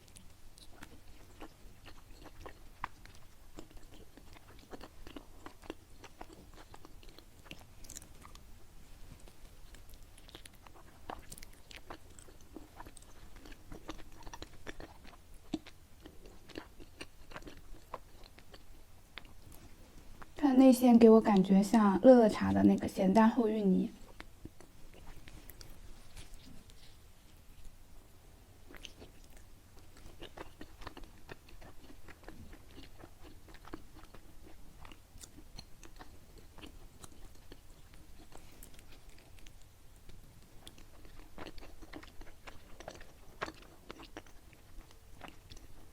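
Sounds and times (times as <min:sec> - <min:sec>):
person chewing sticky food: 0:00.0 - 0:20.4, 0:24.0 - 0:27.8, 0:28.6 - 0:45.9.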